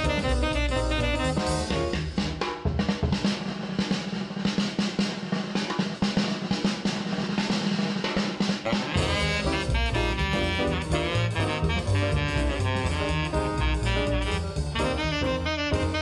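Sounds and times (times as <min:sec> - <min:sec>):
drum kit solo: 0:00.0 - 0:16.0
jazz band with saxophones and brass: 0:00.0 - 0:16.0.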